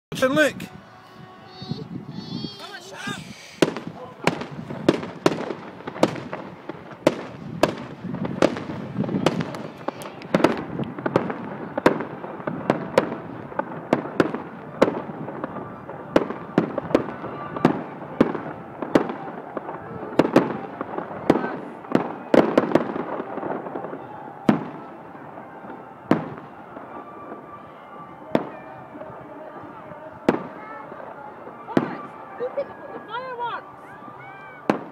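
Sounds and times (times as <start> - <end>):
fireworks banging and crackling: 1.2 - 34.9.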